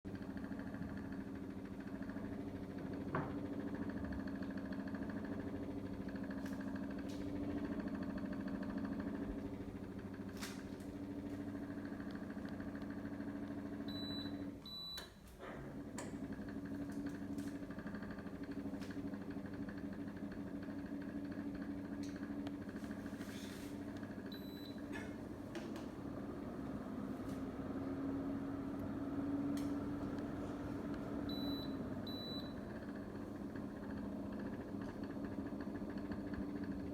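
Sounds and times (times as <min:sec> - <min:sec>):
air conditioner humming: 0:00.1 - 0:36.9.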